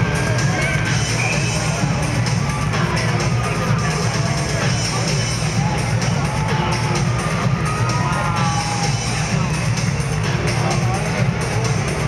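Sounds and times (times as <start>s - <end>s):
electronic music over arena speakers: 0.0s - 12.0s.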